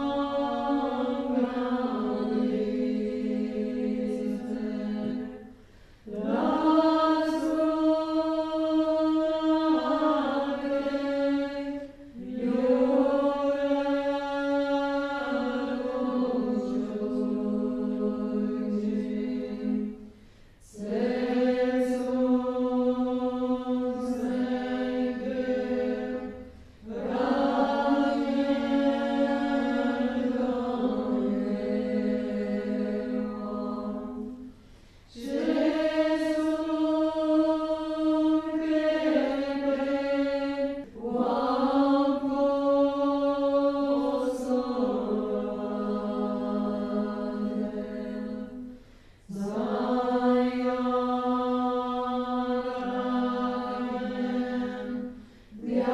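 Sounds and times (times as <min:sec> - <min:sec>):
women chanting in unison: 0:00.0 - 0:55.9.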